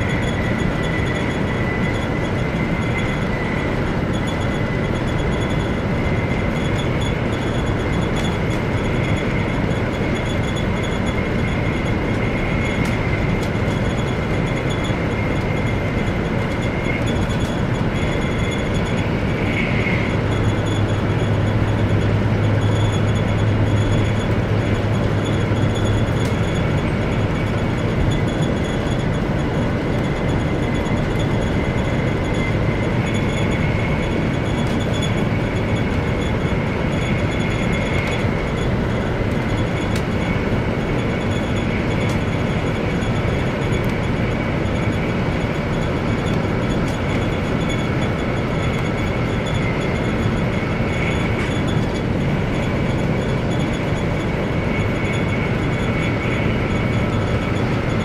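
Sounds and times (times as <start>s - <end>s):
faint high whine: 0.0s - 58.0s
low hum: 0.0s - 58.0s
train wheels rumbling on rail: 0.0s - 58.0s.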